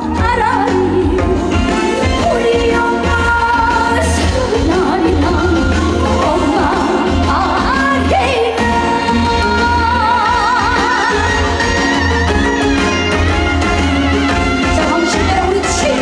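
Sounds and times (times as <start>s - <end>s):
band backing track with bass beat: 0.0s - 16.0s
woman singing: 0.0s - 16.0s.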